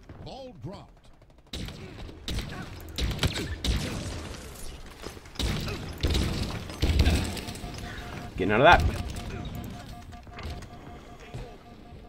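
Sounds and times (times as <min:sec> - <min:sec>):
video game weapon fire: 0:01.5 - 0:12.0.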